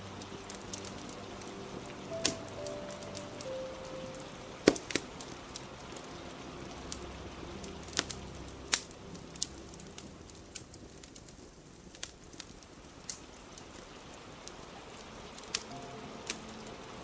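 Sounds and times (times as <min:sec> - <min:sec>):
fire crackling and popping: 0:00.0 - 0:17.0
rain pattering: 0:00.0 - 0:17.0.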